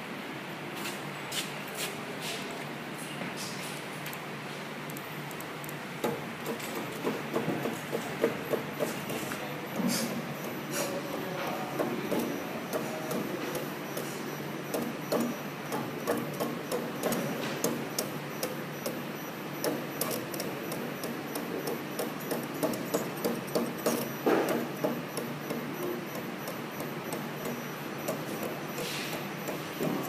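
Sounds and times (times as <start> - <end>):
steady machine hum: 3.8 - 30.0
machine clicks and knocks: 5.3 - 30.0.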